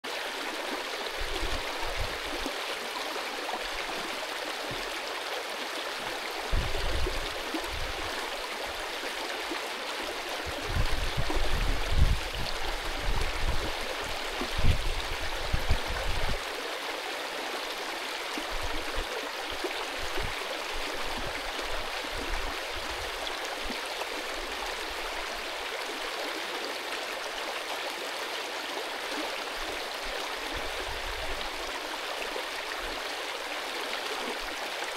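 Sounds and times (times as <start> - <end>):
stream rushing over stones: 0.0 - 34.9.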